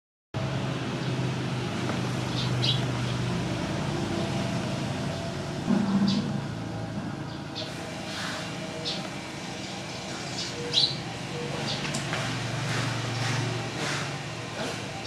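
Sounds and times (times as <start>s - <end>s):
low motor hum: 0.4s - 15.0s.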